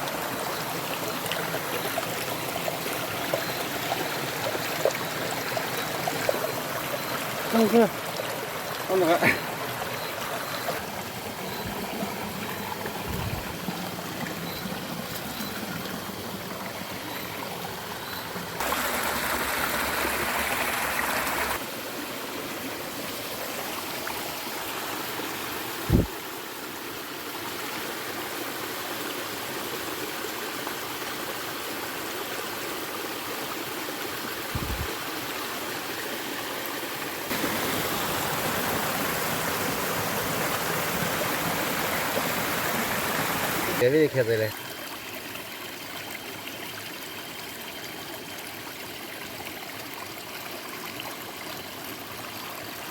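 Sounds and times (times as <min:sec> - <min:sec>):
creek water running: 0:00.0 - 0:52.9.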